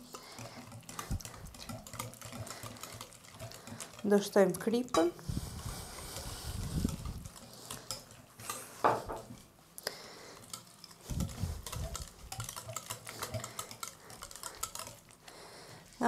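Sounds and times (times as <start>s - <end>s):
whisk clicking against bowl: 0.0s - 5.2s, 5.8s - 9.4s, 10.4s - 15.4s.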